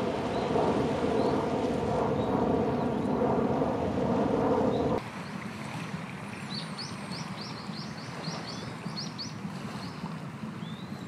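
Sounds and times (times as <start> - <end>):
wind or surf rushing: 0.0 - 10.5.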